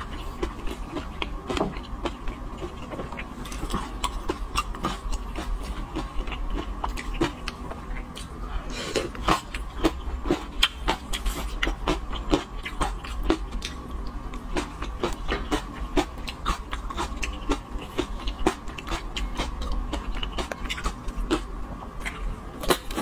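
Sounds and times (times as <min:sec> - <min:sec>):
low steady hum: 0:00.0 - 0:23.0
wet chewing and slurping: 0:00.0 - 0:23.0.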